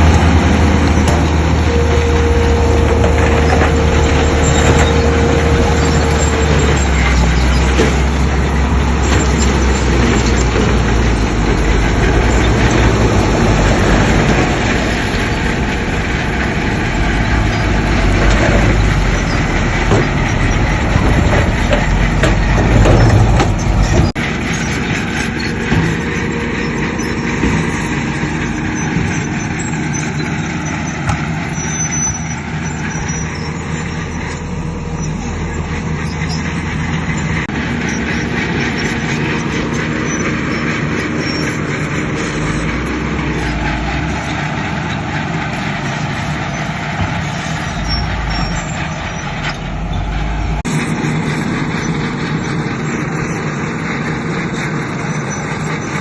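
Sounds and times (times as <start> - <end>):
diesel machinery engine: 0.0 - 56.0.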